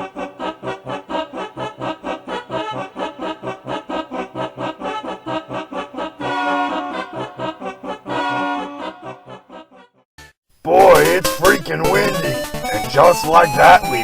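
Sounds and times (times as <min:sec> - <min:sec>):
cheerful instrumental music: 0:00.0 - 0:14.0.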